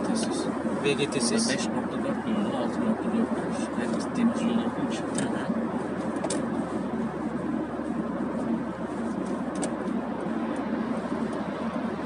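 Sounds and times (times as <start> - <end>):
car engine drone: 0.0 - 12.0
road and tyre noise: 0.0 - 12.0.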